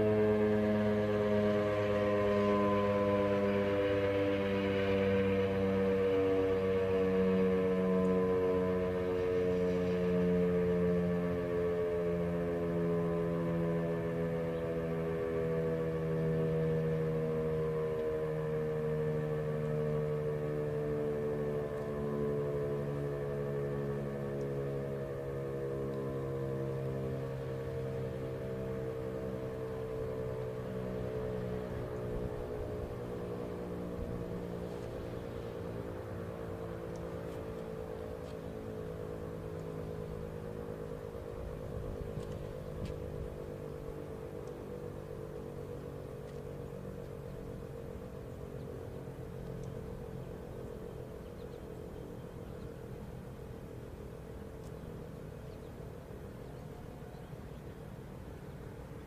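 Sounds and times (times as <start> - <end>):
steady low hum: 0.0 - 59.0
warning siren winding down: 0.0 - 59.0.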